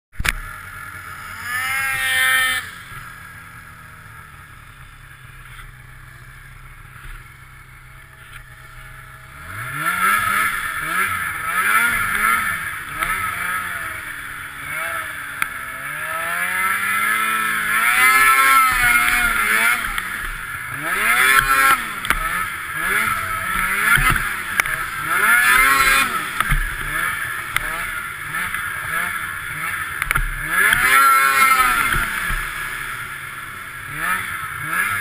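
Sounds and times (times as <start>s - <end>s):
snowmobile engine revving: 0.3s - 35.0s.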